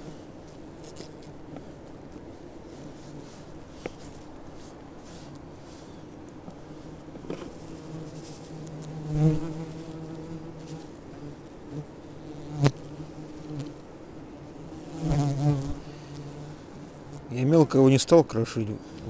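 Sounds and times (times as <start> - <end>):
fly buzzing: 0.0 - 17.3.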